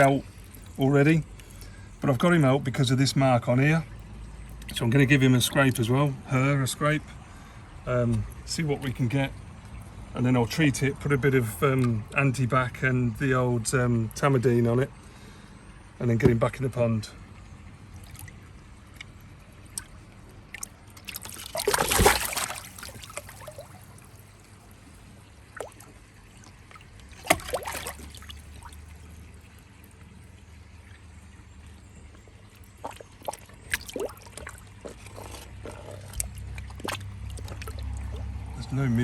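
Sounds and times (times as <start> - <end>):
water splashing and trickling: 0.0 - 39.0.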